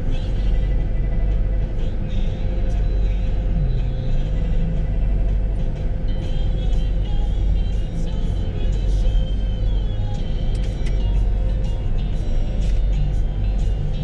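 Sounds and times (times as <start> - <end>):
idling vehicle engines rumbling: 0.0 - 14.0.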